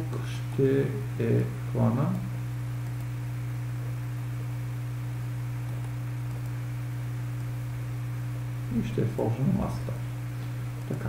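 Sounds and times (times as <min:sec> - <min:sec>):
higher hum tone: 0:00.0 - 0:11.0
low electrical hum: 0:00.0 - 0:11.0.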